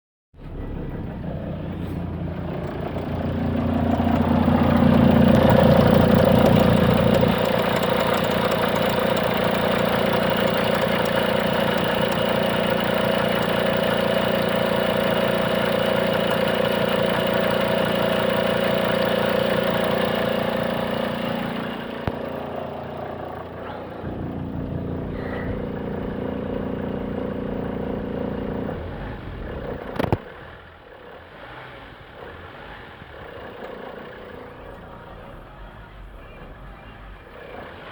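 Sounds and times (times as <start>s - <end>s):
diesel engine droning: 0.4s - 37.9s.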